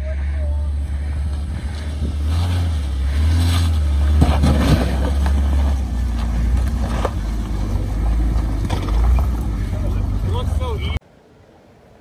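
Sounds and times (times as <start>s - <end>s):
engine rumbling under load: 0.0s - 11.9s.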